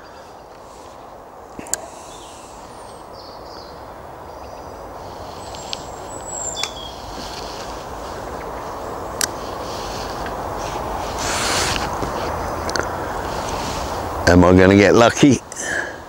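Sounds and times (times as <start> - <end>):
outdoor background rush: 0.0 - 16.0
small birds chirping: 0.0 - 16.0.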